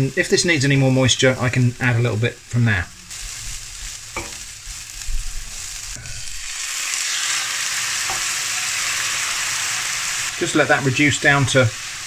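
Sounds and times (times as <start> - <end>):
mushrooms frying in oil: 0.0 - 12.0.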